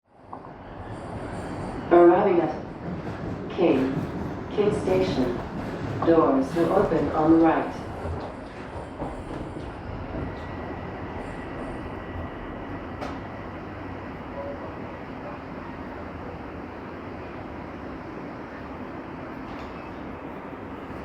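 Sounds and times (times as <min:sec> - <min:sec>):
subway train rumble and rail noise: 0:00.0 - 0:21.0.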